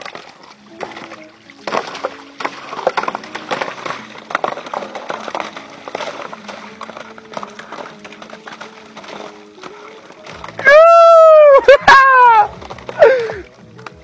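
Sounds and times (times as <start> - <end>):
ice rods clinking and clattering: 0.0 - 14.0.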